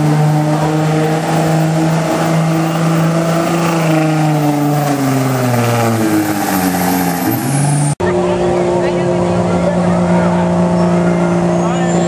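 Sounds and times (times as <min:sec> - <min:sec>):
diesel engine at full throttle: 0:00.0 - 0:12.0.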